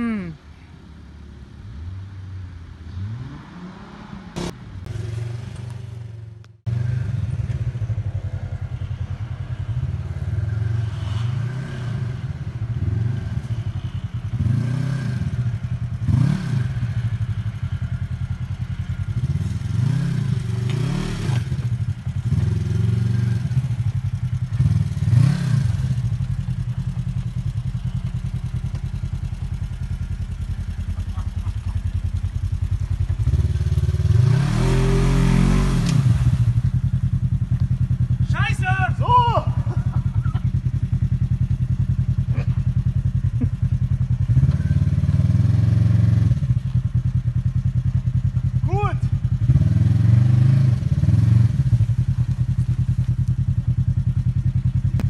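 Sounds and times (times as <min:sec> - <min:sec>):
buggy engine revving: 0:01.6 - 0:55.0.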